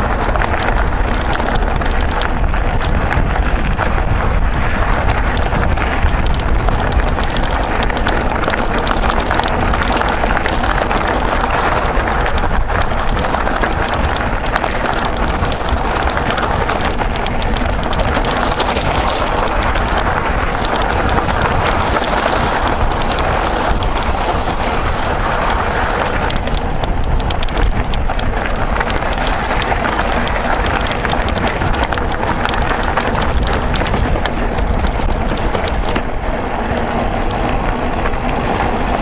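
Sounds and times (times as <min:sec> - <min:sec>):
bike tyres rattling on trail: 0:00.0 - 0:39.0
wind buffeting microphone: 0:00.0 - 0:39.0.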